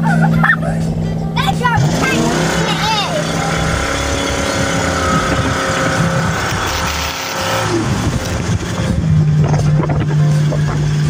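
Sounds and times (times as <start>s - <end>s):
boat engine running: 0.0s - 11.0s
wake water rushing: 1.8s - 11.0s.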